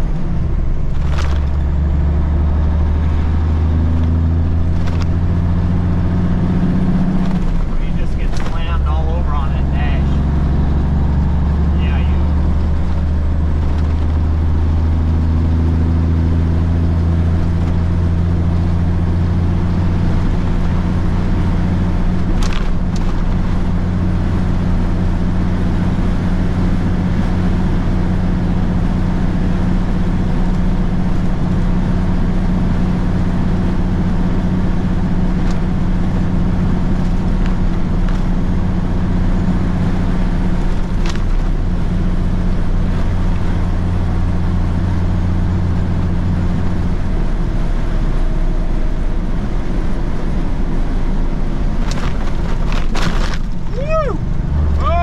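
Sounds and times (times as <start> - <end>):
diesel truck engine drone: 0.0 - 55.0
road noise: 0.0 - 55.0.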